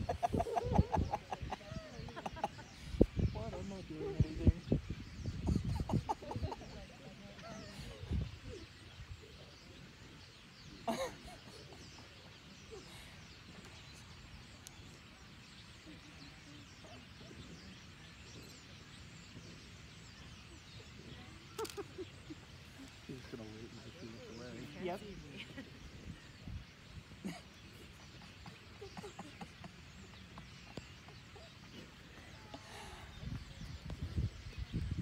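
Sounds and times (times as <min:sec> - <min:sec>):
bird calls: 0:00.0 - 0:35.0
faint outdoor ambience: 0:00.0 - 0:35.0.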